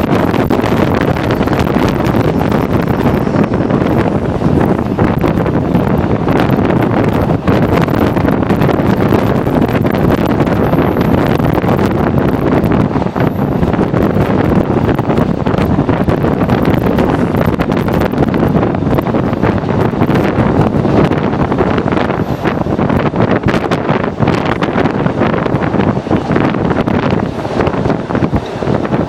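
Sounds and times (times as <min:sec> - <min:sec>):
moving train rumble: 0:00.0 - 0:29.0
wind buffeting microphone: 0:00.0 - 0:29.0.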